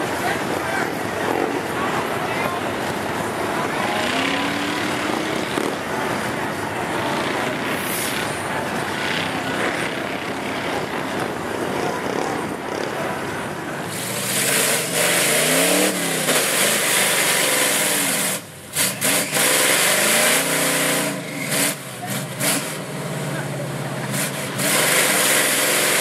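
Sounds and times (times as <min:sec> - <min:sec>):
truck engine revving in mud: 0:00.0 - 0:26.0.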